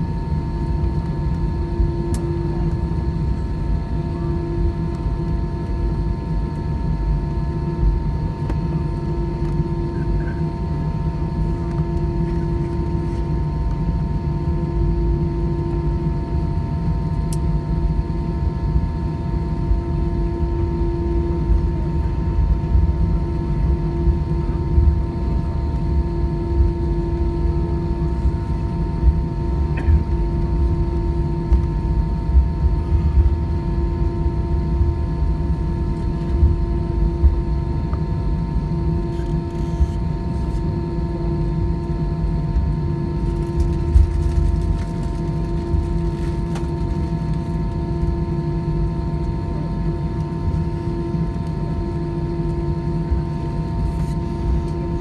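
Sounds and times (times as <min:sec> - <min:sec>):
aircraft cabin rumble and drone: 0:00.0 - 0:55.0.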